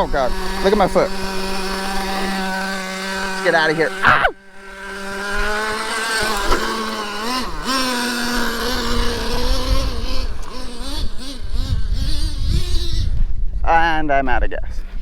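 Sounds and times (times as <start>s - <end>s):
nitro engine revving: 0.0s - 13.8s.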